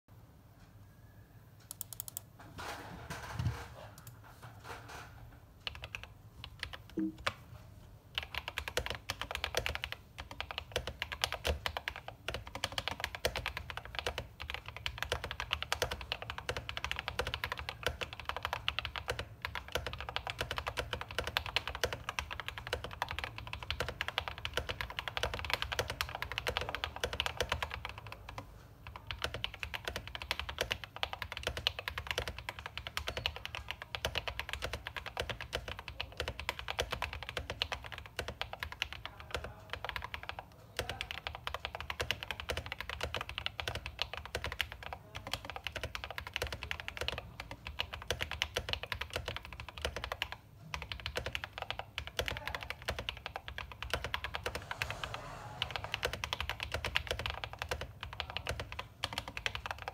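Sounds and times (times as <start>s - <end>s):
mechanical keyboard typing: 1.6s - 2.3s, 5.6s - 7.5s, 8.1s - 59.9s.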